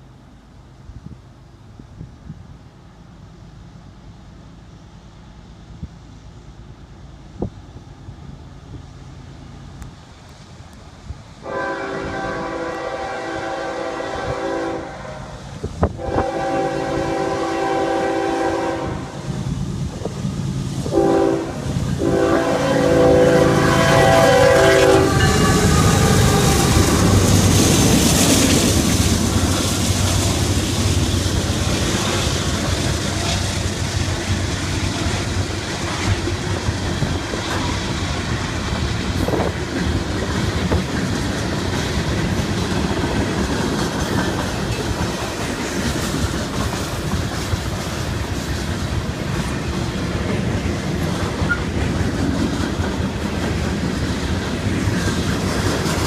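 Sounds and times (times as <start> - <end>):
diesel locomotives passing: 0.0 - 56.0.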